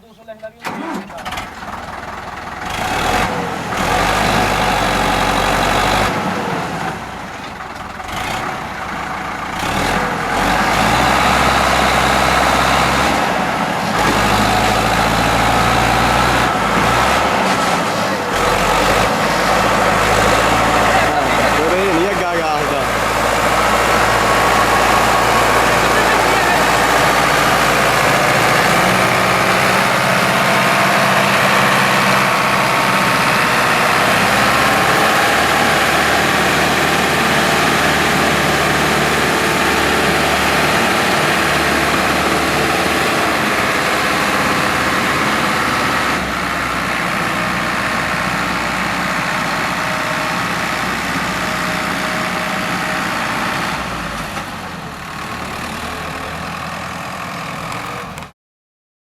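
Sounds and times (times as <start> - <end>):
tractor diesel engine running: 0.0 - 58.3.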